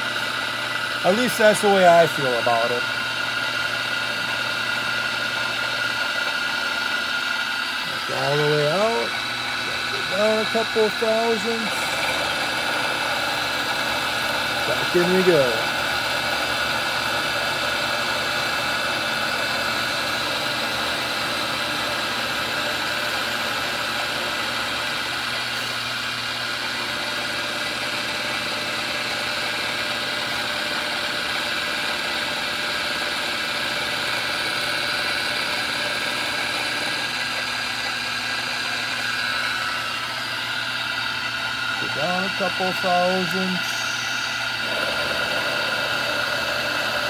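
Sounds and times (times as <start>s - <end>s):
milling machine cutting metal: 0.0s - 47.0s.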